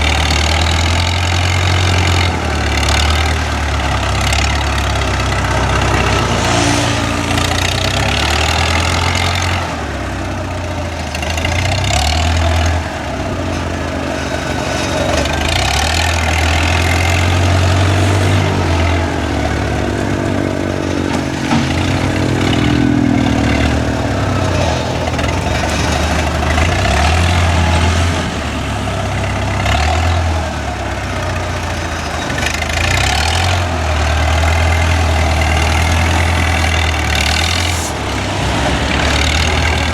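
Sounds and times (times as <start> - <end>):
heavy diesel engine revving: 0.0 - 39.9.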